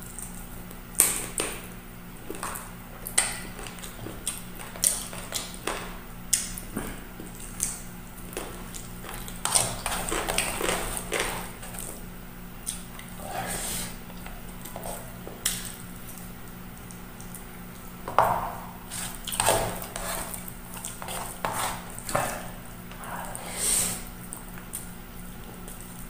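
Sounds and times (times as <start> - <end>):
chewing and lip smacks: 0.0 - 13.2, 14.0 - 18.0, 19.0 - 23.4, 24.1 - 26.0.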